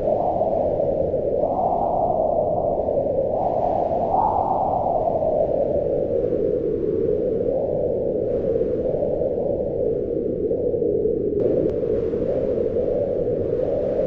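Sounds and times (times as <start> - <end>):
howling wind: 0.0 - 14.0.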